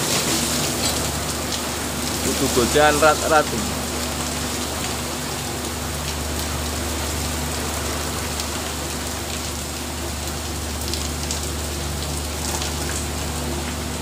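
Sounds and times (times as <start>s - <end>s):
heavy rain hissing: 0.0s - 14.0s
low mechanical hum: 0.0s - 14.0s.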